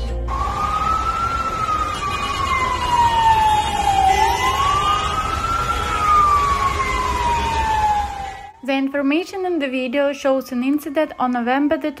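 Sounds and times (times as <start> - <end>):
siren wailing: 0.3 - 12.0.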